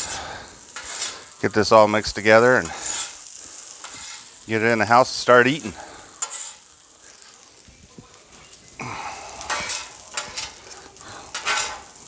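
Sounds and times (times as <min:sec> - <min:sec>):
fried rice sizzling on a griddle: 0:00.0 - 0:12.0
spatula scraping a griddle: 0:00.0 - 0:12.0.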